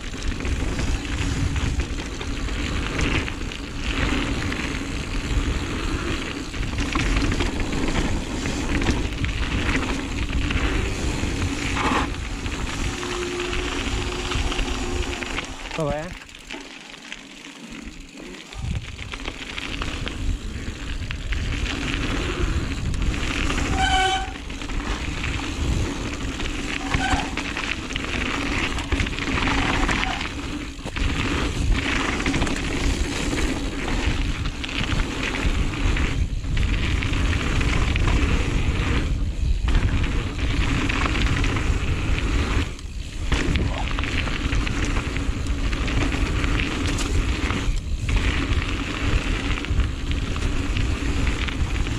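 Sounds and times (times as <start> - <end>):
wind on microphone: 0.0 - 15.6, 18.5 - 51.9
bike tyre and frame rattle: 0.0 - 51.9.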